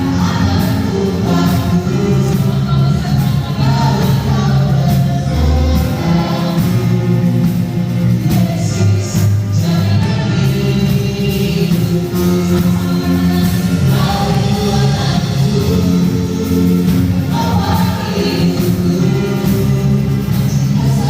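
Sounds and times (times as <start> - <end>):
band accompaniment with steady beat: 0.0 - 21.0
group singing a praise song: 0.0 - 21.0.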